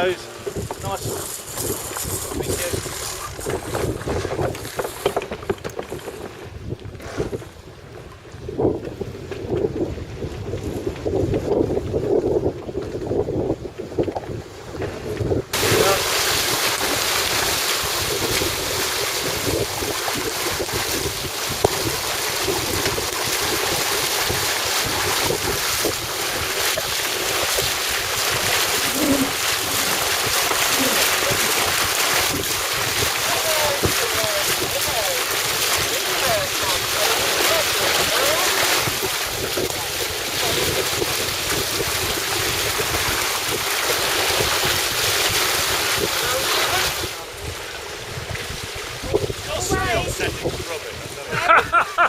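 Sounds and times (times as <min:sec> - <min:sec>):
water sounds: 0:00.0 - 0:52.0
wind on microphone: 0:00.0 - 0:52.0.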